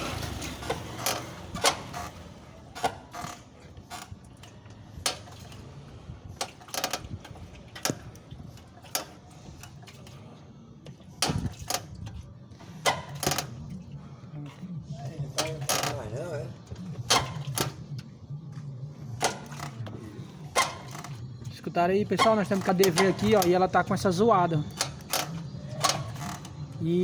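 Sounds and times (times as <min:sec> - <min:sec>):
scooter rattling clicks and knocks: 0:00.0 - 0:10.3, 0:10.9 - 0:14.0, 0:15.3 - 0:18.0, 0:19.1 - 0:27.0.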